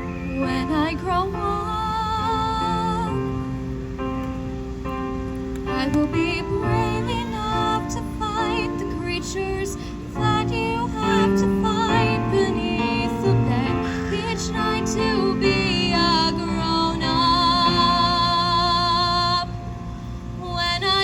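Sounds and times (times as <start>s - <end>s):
person singing: 0.0s - 3.4s, 5.7s - 19.7s
instrumental backing music: 0.0s - 21.0s.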